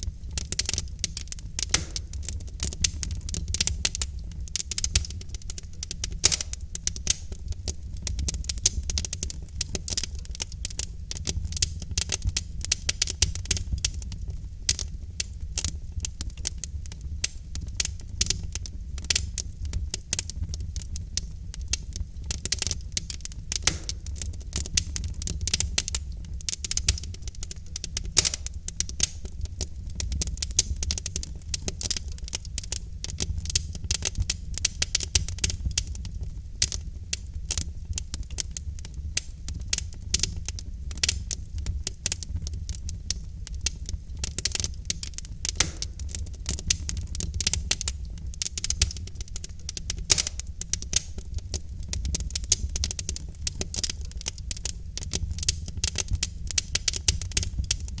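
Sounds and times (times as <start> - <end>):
logs crackling and popping: 0.0 - 58.0
low fire rumble: 0.0 - 58.0.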